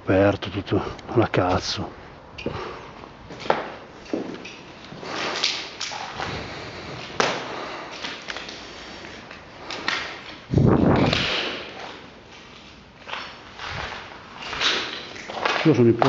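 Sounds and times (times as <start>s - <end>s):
footsteps on rubble: 3.0s - 16.0s.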